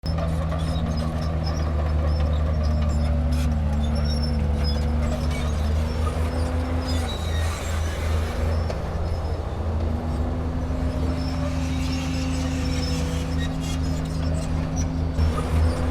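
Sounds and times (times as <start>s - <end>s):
heavy machinery diesel engine: 0.0s - 15.9s
high engine tone: 0.8s - 15.9s.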